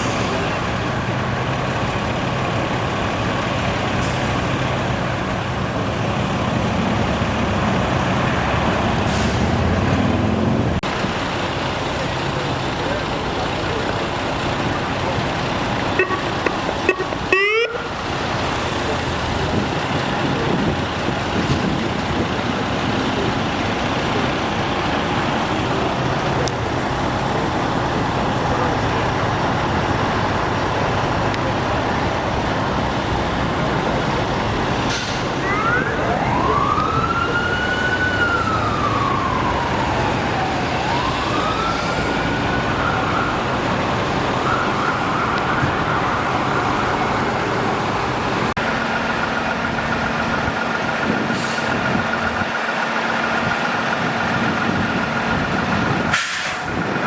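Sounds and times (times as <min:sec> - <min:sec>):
emergency vehicle siren wailing: 0:00.0 - 0:57.0
street traffic: 0:00.0 - 0:57.0.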